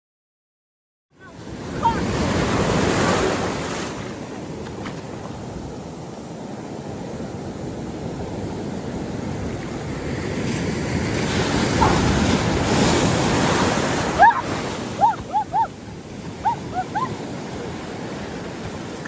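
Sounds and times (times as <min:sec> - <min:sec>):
ocean wave rushing: 0:01.2 - 0:04.6, 0:05.3 - 0:19.0.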